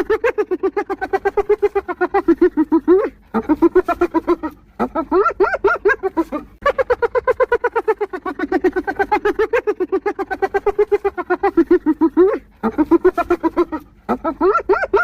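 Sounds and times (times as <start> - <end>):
hyena giggling: 0.0 - 15.0.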